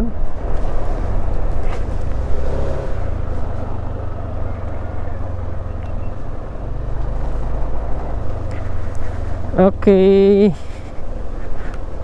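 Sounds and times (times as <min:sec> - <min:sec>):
road noise: 0:00.0 - 0:12.0
scooter engine rumbling: 0:00.4 - 0:12.0.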